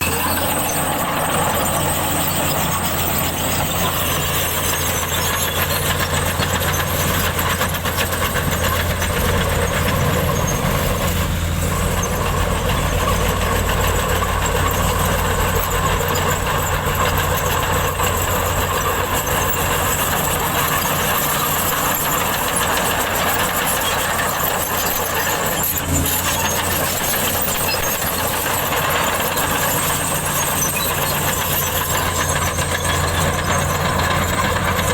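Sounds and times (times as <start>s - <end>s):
bulldozer diesel engine running: 0.0s - 34.9s
metallic noise with high squeal: 0.0s - 34.9s.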